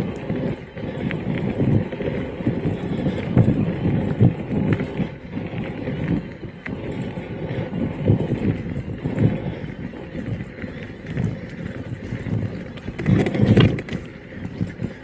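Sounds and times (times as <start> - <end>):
bike thudding and rattling: 0.0 - 15.0.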